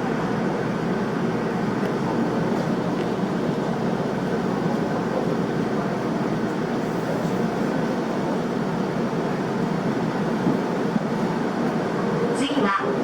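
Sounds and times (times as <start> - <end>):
train running on rails: 0.0 - 13.0.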